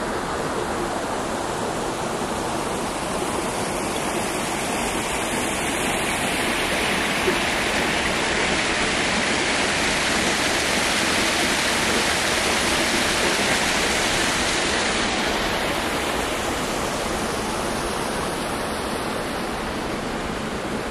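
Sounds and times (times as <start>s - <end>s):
stream rushing over cascades: 0.0s - 20.9s.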